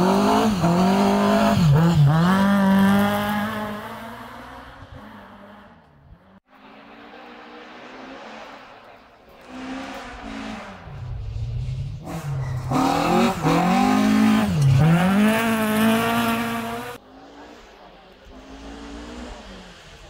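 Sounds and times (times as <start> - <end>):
rally car engine passing: 0.0 - 20.0.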